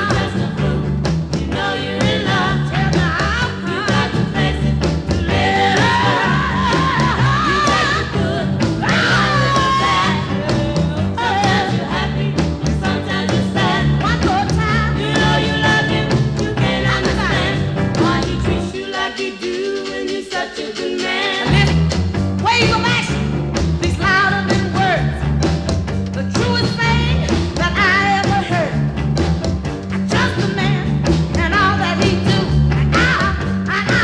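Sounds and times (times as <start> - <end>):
rock and roll record playing: 0.0 - 34.0.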